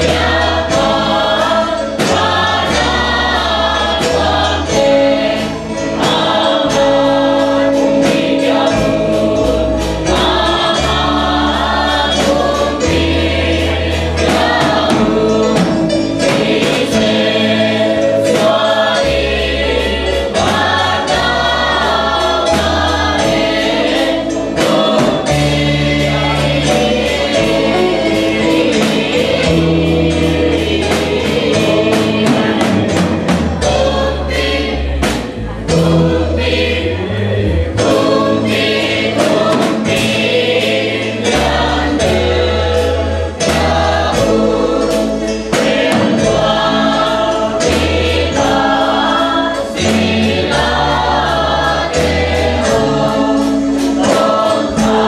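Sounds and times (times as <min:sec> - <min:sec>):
choir singing a hymn: 0:00.0 - 0:55.0
drum kit beat: 0:00.0 - 0:55.0
electronic keyboard chords: 0:00.0 - 0:55.0.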